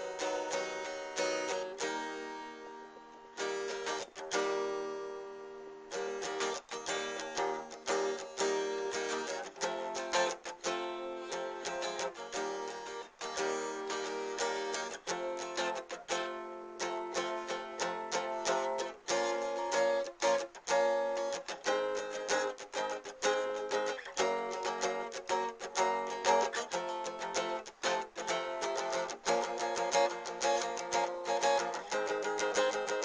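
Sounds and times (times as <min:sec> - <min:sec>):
guitar strummed and picked: 0:00.0 - 0:33.0.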